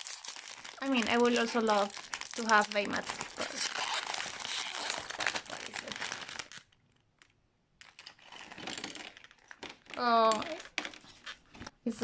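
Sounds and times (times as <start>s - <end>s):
plastic packaging crinkling and tearing: 0.0s - 11.5s.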